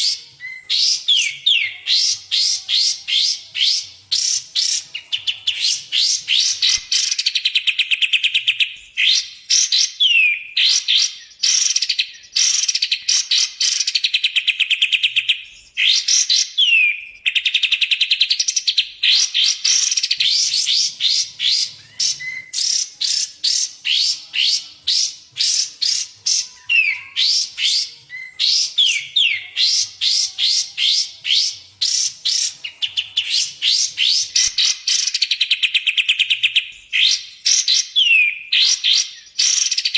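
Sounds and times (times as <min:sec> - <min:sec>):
songbirds trilling and chattering: 0:00.0 - 0:39.9.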